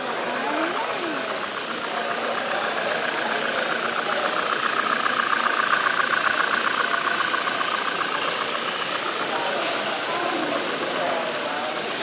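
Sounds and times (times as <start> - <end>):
model train whirring rattle: 0.0 - 12.0.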